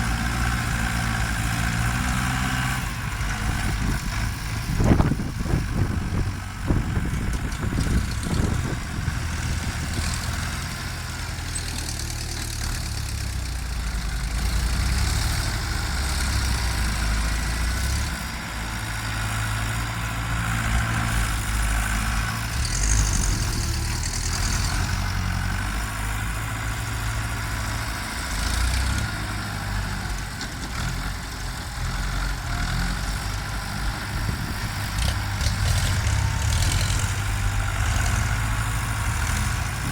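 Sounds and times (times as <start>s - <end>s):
tractor diesel engines running: 0.0s - 39.9s.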